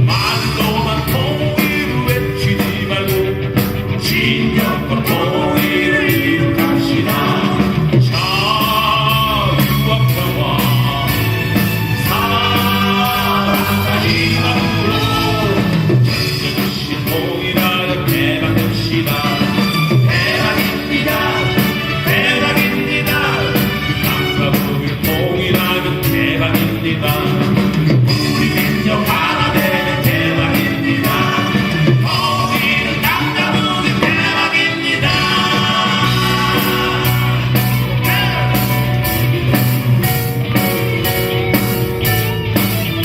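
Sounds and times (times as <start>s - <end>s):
lead vocal singing: 0.0s - 42.7s
live pop-rock band playing: 0.0s - 43.0s
steady drum beat: 0.0s - 43.0s.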